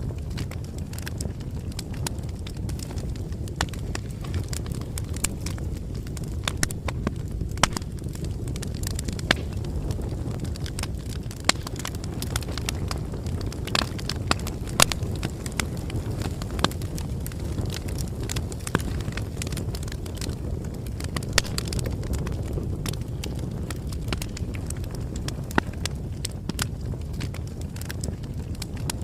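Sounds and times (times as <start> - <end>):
fire crackling and popping: 0.0 - 29.0
low rumble of flames: 0.0 - 29.0.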